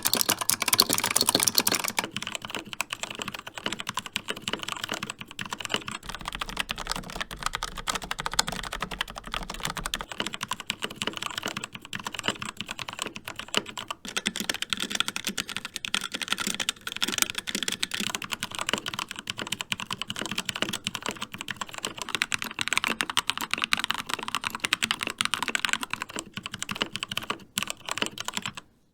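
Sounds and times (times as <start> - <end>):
fast typing on mechanical keyboards: 0.0 - 28.7.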